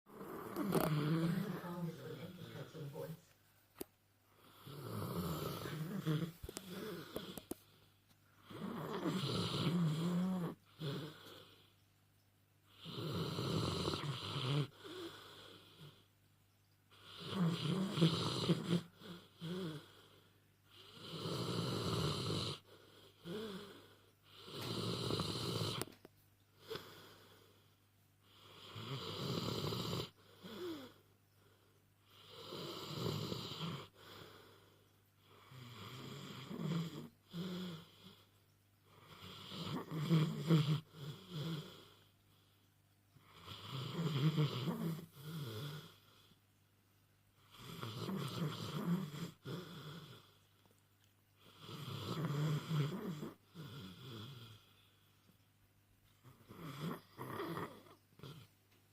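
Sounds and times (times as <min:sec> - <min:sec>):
dog snoring: 0:00.1 - 0:03.2, 0:04.4 - 0:11.7, 0:12.7 - 0:16.1, 0:16.9 - 0:26.0, 0:26.6 - 0:42.6, 0:43.2 - 0:46.4, 0:47.4 - 0:50.4, 0:51.4 - 0:55.0, 0:56.2 - 0:58.5.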